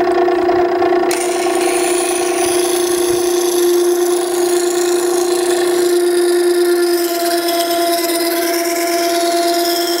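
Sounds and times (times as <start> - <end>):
sharpener motor humming: 1.1 - 10.0
steel grinding on stone wheel: 1.1 - 10.0.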